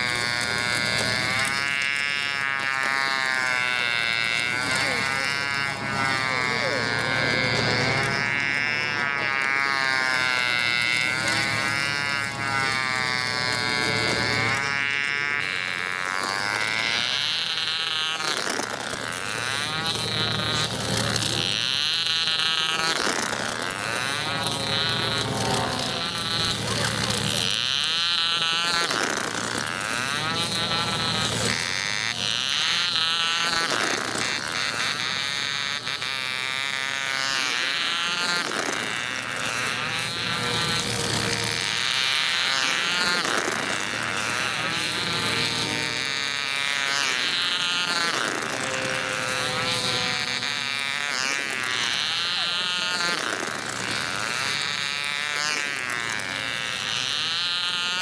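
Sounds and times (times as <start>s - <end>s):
model engine buzzing: 0.0s - 58.0s.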